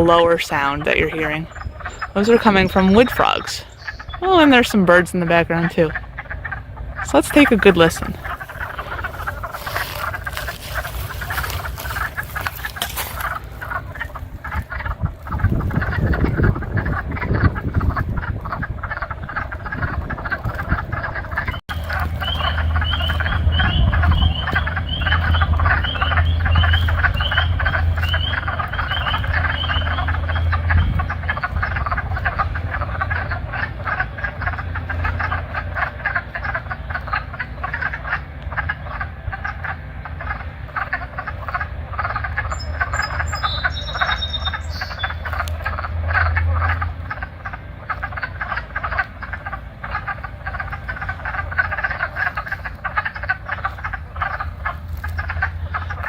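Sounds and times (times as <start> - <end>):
low rumble: 0.0 - 56.0
spring peepers peeping: 0.0 - 56.0
wood frogs clucking: 0.0 - 56.0.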